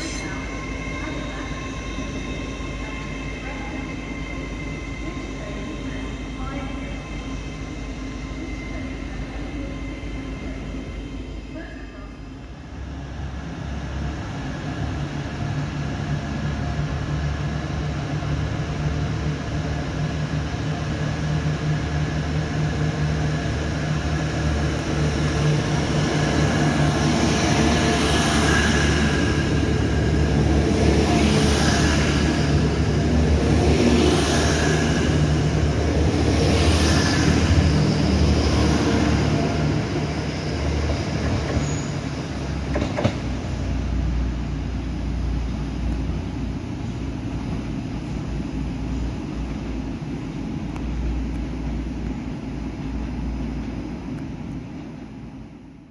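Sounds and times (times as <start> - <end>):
train diesel engine drone: 0.0 - 55.9.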